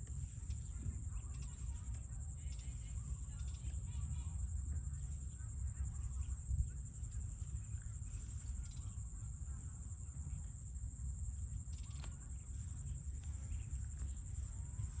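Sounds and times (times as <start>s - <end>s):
faint chirps: 0.0s - 15.0s
high insect drone: 0.0s - 15.0s.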